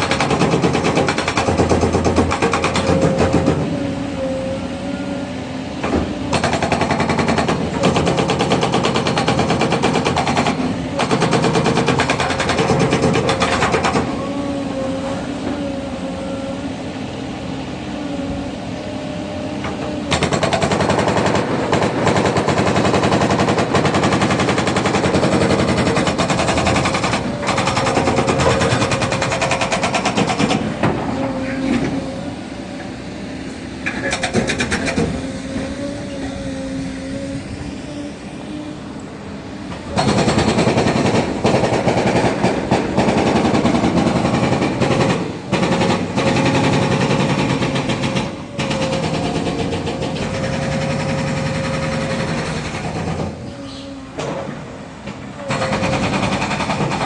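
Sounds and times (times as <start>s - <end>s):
hydraulic breaker hammering: 0.0s - 4.4s, 5.8s - 14.3s, 19.6s - 37.1s, 39.6s - 57.0s
excavator engine and hydraulics: 0.0s - 57.0s.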